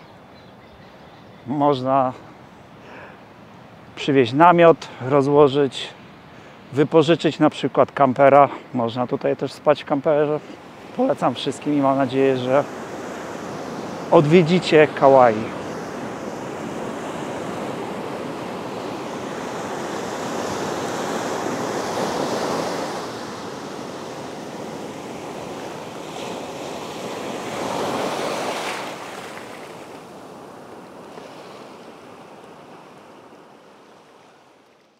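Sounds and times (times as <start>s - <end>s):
ocean surf washing onto beach: 2.0s - 34.4s.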